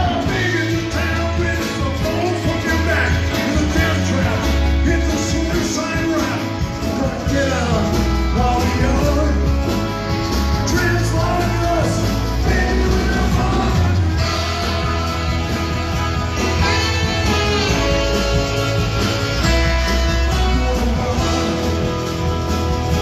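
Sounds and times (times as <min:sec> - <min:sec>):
live rock band playing: 0:00.0 - 0:23.0
man singing lead vocal: 0:00.0 - 0:23.0.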